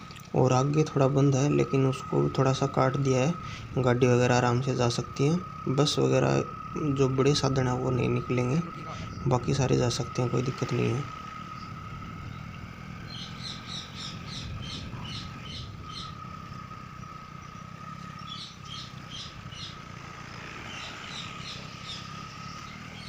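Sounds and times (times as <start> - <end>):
birds chirping: 0.0 - 23.0
motorcycle engine running: 0.0 - 23.0.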